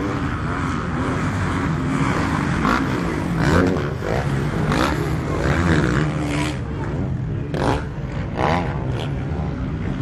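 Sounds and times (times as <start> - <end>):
motocross engines revving: 0.0 - 10.0.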